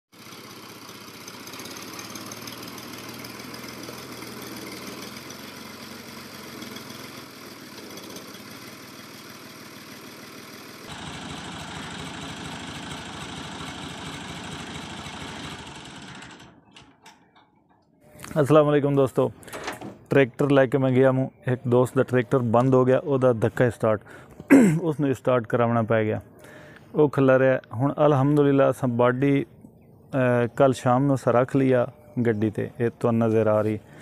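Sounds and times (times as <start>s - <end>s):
tractor engine running: 0.1s - 34.0s.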